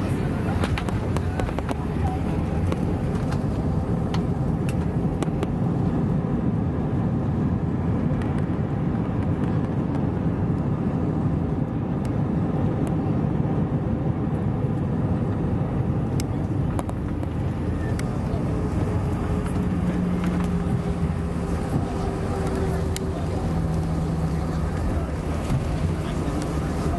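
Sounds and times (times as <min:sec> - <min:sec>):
aircraft cabin rumble: 0:00.0 - 0:26.9.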